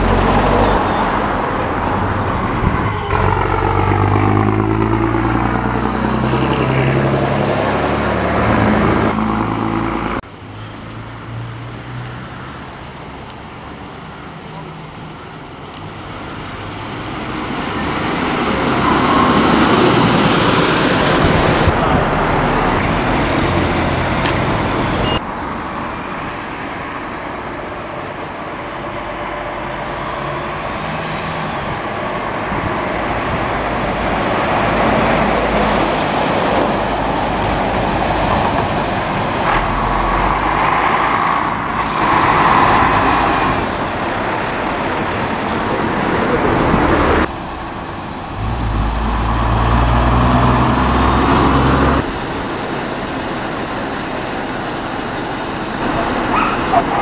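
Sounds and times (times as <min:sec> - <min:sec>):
diesel bus engines: 0:00.0 - 0:57.0
road traffic: 0:00.0 - 0:57.0.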